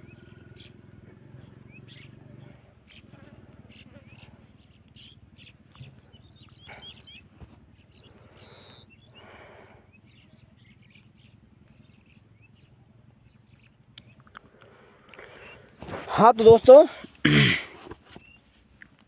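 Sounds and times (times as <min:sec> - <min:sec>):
faint birds chirping: 0:00.0 - 0:19.0
low outdoor background noise: 0:00.0 - 0:19.0.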